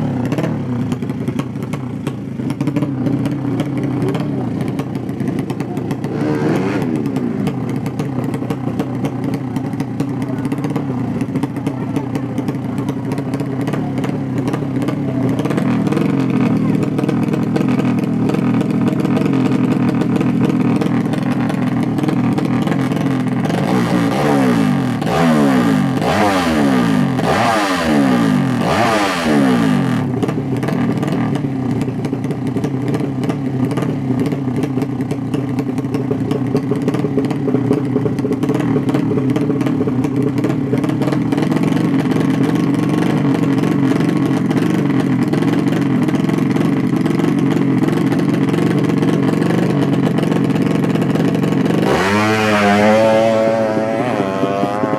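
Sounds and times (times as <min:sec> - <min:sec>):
motorcycle engine revving: 0:00.0 - 0:54.9
motorcycle engines running: 0:00.0 - 0:54.9.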